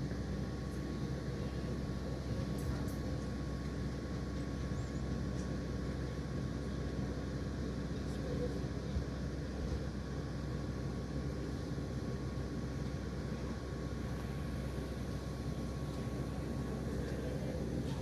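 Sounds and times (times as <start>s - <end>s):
generator engine running: 0.0s - 18.0s.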